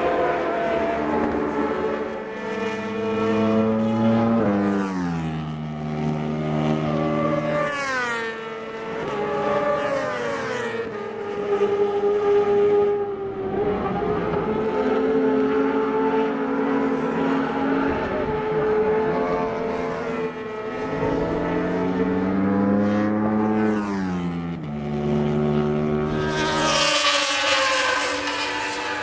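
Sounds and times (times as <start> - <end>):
race motorcycles at high revs: 0.0 - 29.0.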